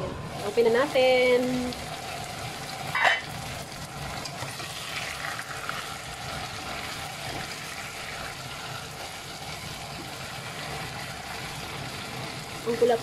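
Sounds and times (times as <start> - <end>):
steady sizzle in pot: 0.0 - 13.0.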